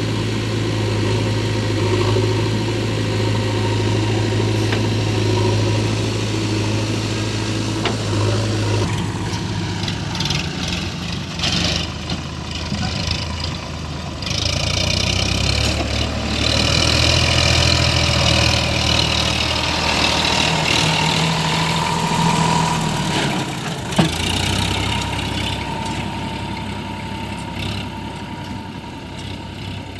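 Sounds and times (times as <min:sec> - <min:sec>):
diesel engines running: 0:00.0 - 0:29.9.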